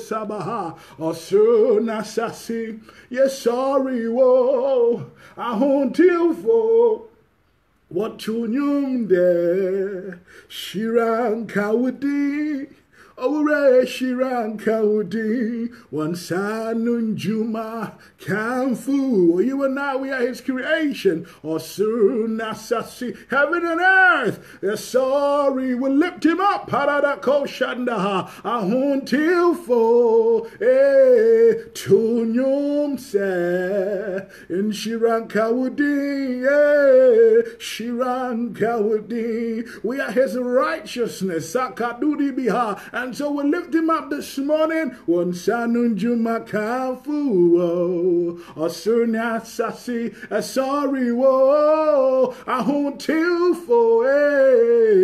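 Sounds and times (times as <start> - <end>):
person singing unaccompanied: 0.0 - 7.2, 7.9 - 55.0.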